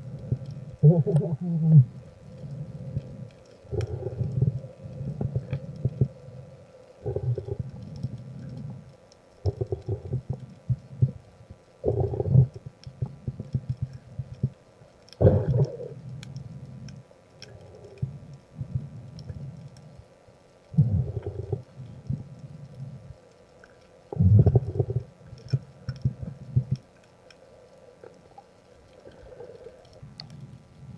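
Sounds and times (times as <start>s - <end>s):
muffled underwater bubbling: 0.0s - 14.6s, 15.2s - 20.0s, 20.7s - 30.9s
faint clicks: 0.1s - 30.9s.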